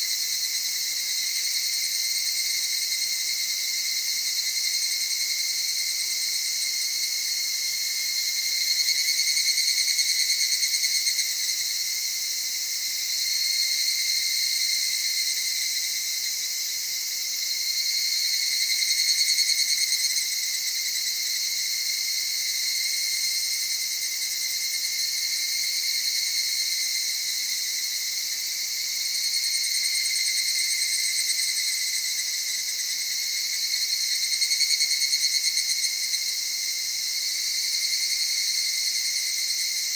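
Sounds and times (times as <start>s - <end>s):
cicadas chorus calling: 0.0s - 39.9s.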